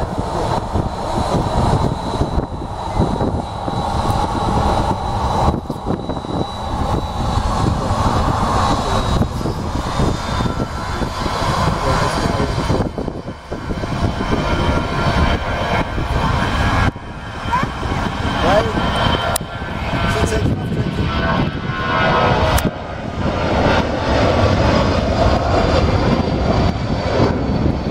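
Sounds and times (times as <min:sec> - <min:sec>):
high jet whine: 0:00.0 - 0:27.9
jet engine roar: 0:00.0 - 0:27.9.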